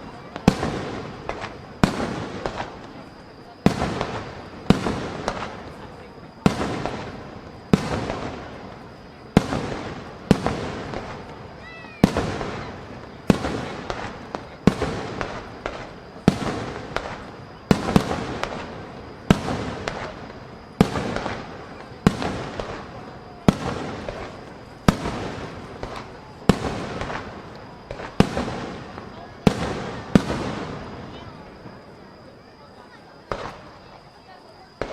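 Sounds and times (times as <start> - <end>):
rolling echo: 0.0 - 34.9.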